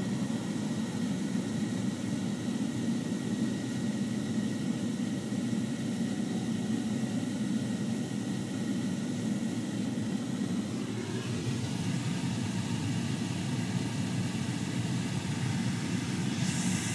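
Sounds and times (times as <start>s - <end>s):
low engine drone inside vehicle: 0.0s - 16.9s.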